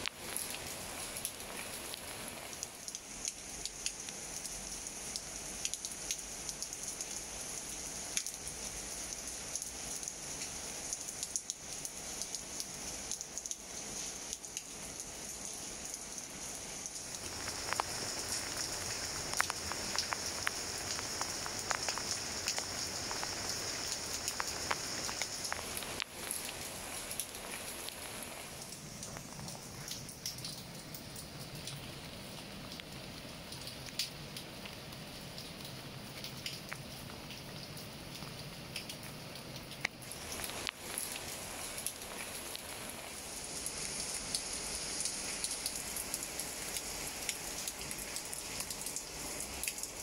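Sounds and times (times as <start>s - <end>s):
rain falling on leaves: 0.0s - 50.0s.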